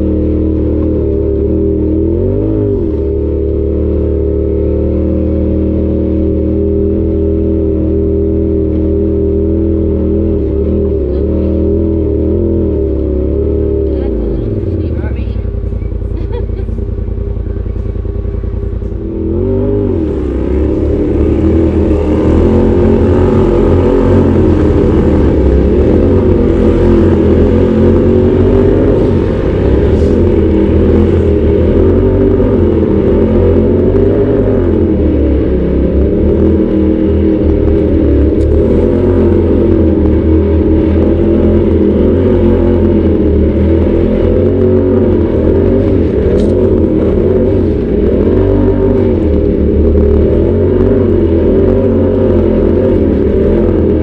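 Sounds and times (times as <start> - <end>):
utv engine revving: 0.0 - 54.0.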